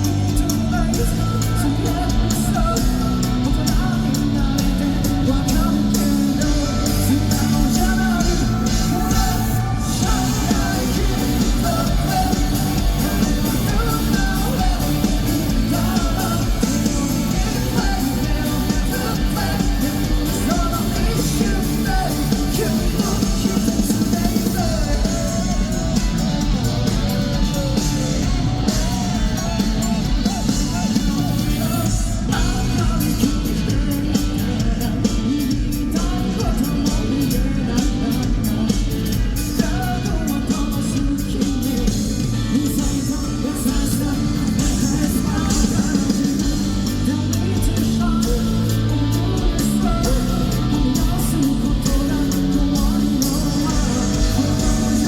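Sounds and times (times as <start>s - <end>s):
lead singer singing: 0.0s - 55.0s
live rock band: 0.0s - 55.0s.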